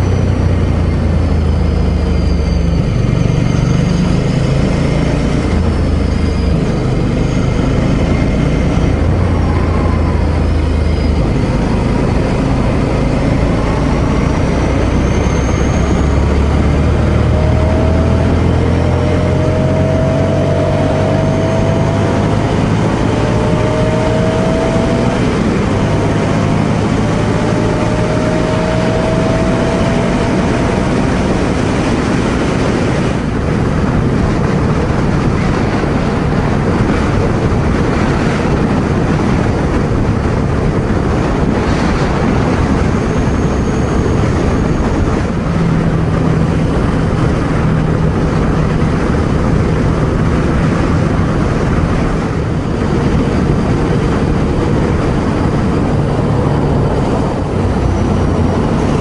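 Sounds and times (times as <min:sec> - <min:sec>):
motorcycle engine cruising: 0:00.0 - 0:59.0
road noise: 0:00.0 - 0:59.0
wind rush on helmet: 0:00.0 - 0:59.0.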